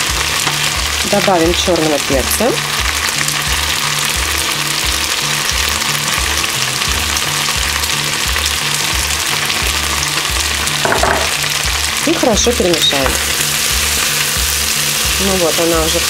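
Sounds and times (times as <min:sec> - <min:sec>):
background music bass line: 0:00.0 - 0:16.0
food sizzling in hot oil: 0:00.0 - 0:16.0.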